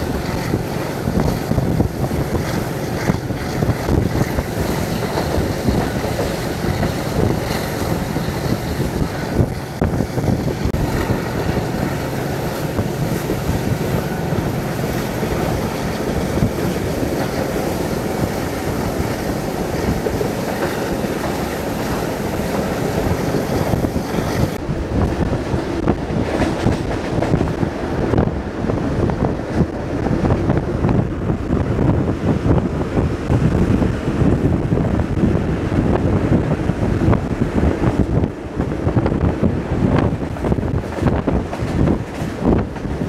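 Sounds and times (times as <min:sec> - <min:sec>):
train wheels clattering on track: 0:00.0 - 0:43.0
wind buffeting microphone: 0:00.0 - 0:43.0.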